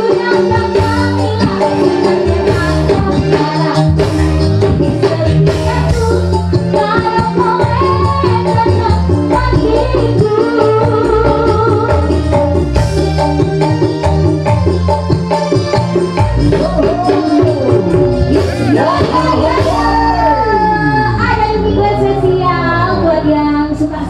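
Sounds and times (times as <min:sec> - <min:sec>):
kendang drum rhythm: 0:00.0 - 0:21.4
bass: 0:00.0 - 0:24.0
keyboard melody: 0:00.0 - 0:24.0.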